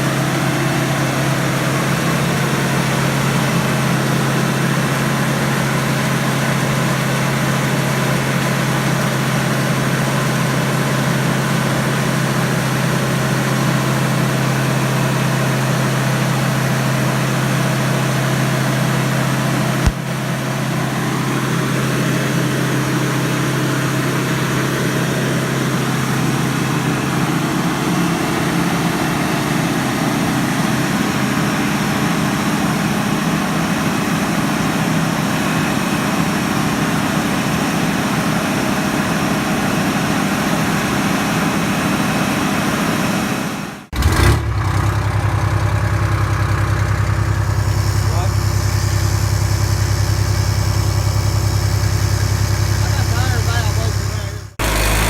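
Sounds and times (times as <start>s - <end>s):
drill rig engine running: 0.0s - 55.0s.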